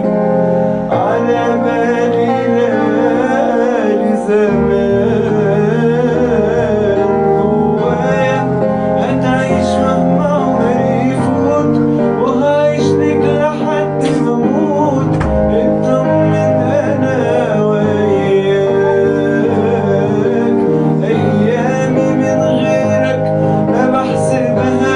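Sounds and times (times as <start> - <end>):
instrumental backing music: 0.0 - 24.9
man singing: 0.0 - 24.9.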